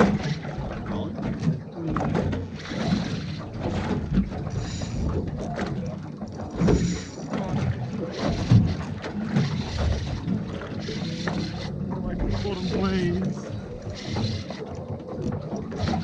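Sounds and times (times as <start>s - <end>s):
water around boat hull: 0.0s - 16.0s.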